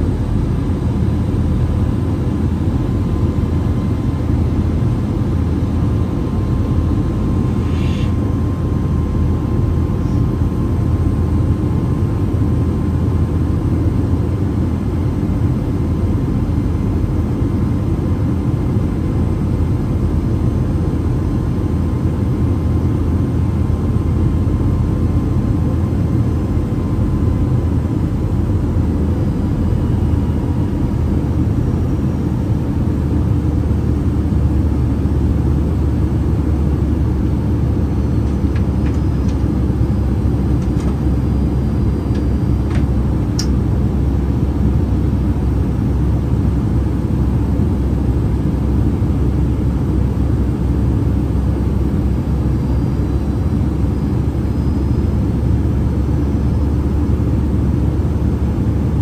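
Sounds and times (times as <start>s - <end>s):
airplane cabin rumble: 0.0s - 59.0s
faint steady whine: 0.0s - 59.0s.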